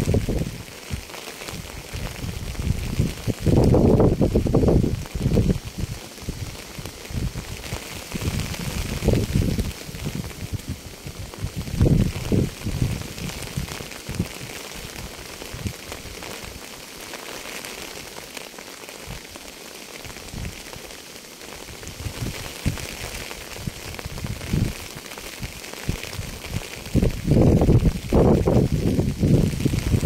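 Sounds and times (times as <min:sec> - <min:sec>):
raindrops thudding on surface: 0:00.0 - 0:30.0
steady rain: 0:00.0 - 0:30.0.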